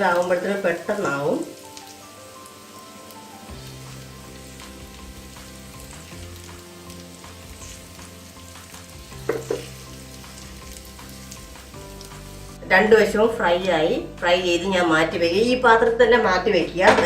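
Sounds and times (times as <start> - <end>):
paneer sizzling in hot oil: 0.0 - 15.0.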